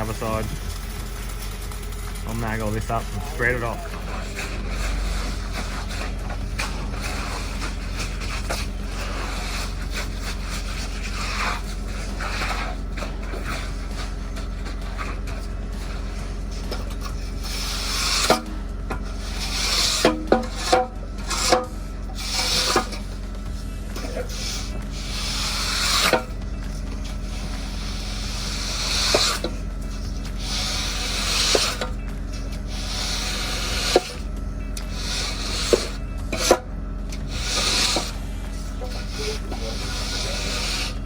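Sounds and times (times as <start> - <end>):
float scraping over concrete: 0.0 - 41.0
low machine hum: 0.0 - 41.0.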